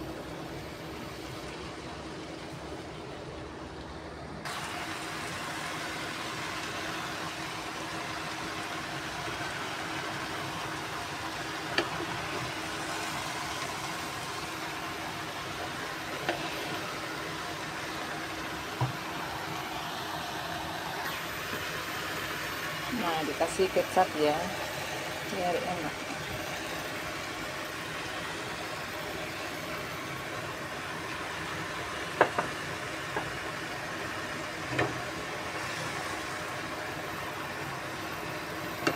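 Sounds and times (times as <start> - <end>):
food sizzling in a pan: 4.5 - 38.9.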